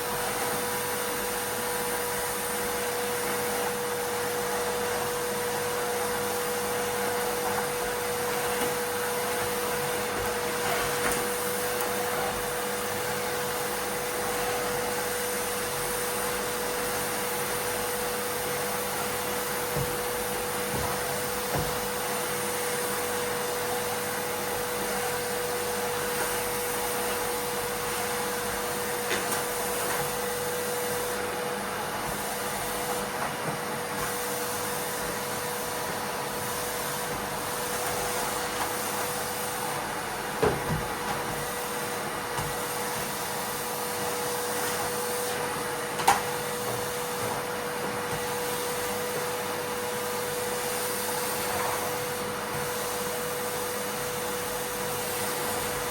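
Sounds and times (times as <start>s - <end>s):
vacuum cleaner whining: 0.0s - 55.9s.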